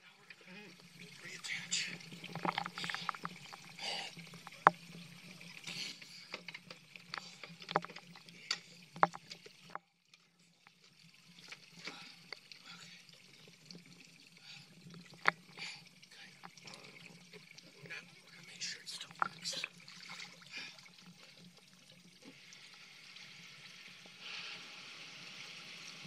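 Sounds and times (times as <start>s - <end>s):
water sloshing and splashing: 0.2s - 24.2s.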